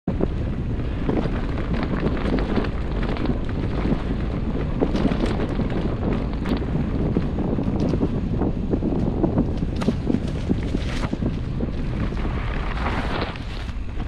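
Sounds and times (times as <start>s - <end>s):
wind rush on microphone: 0.0s - 14.0s
bike clicks and rattles: 0.1s - 14.0s
bike tyre noise: 0.1s - 14.0s.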